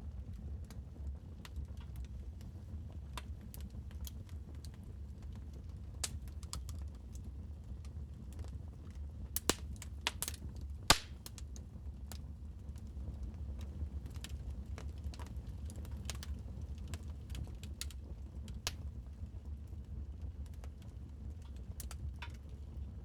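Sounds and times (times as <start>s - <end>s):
wood fire crackling: 0.3s - 23.0s.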